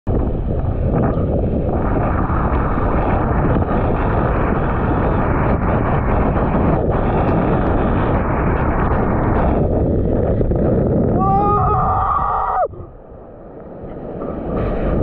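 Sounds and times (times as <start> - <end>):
strong wind buffeting microphone: 0.1 - 15.0.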